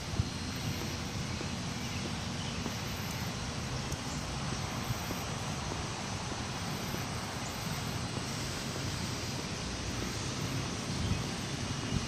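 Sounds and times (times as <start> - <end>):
even hiss: 0.0 - 12.0.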